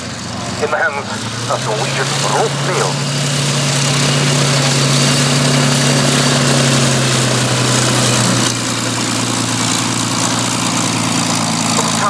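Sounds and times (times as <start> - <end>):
piston aircraft engine running: 0.0 - 12.0.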